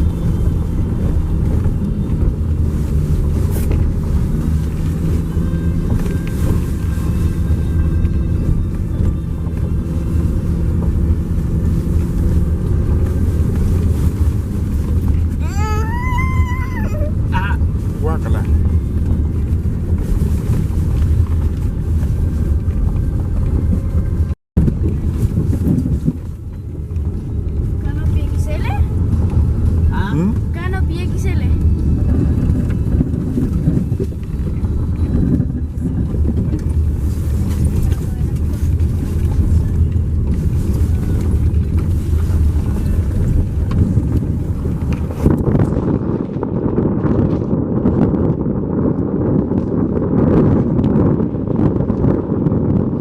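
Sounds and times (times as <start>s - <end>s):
road noise: 0.0s - 53.0s
vehicle engine rumble: 0.0s - 53.0s.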